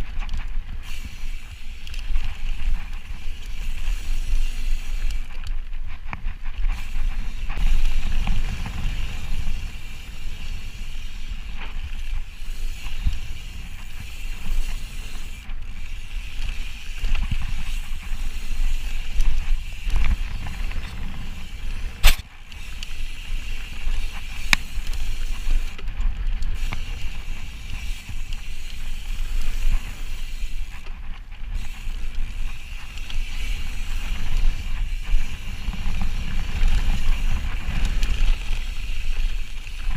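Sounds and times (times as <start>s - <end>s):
bike rattling and clicking: 0.0s - 39.9s
mountain bike rumble on dirt: 0.0s - 39.9s.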